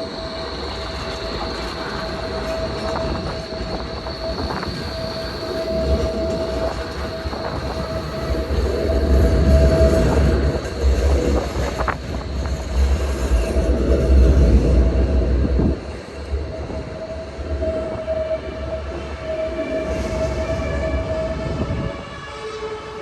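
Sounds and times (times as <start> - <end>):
heavy rumble of passing tram: 0.0 - 23.0
tram wheels squealing on rails: 0.0 - 23.0.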